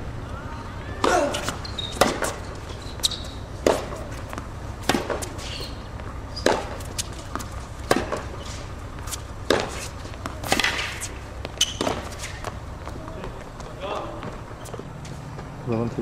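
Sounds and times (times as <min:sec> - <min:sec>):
tennis racket hitting ball: 0:01.0 - 0:14.8.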